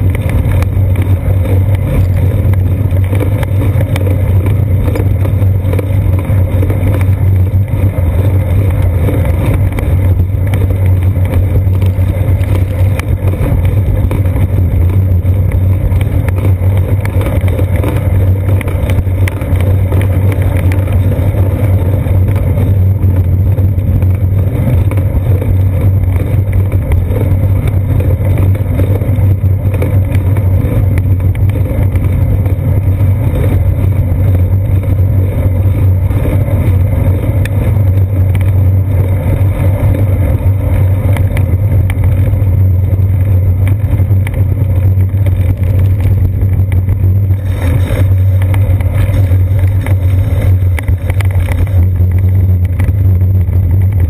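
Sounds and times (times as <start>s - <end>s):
wind and road vibration rumble: 0.0s - 54.0s.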